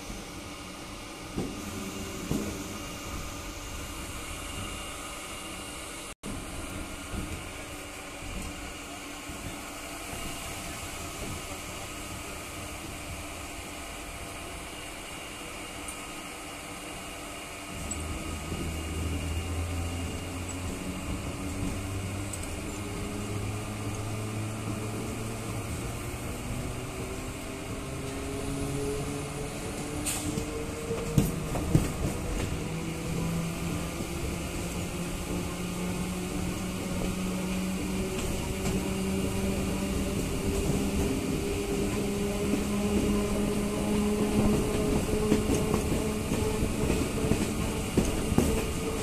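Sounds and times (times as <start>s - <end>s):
electric train motors humming: 0.0s - 49.0s.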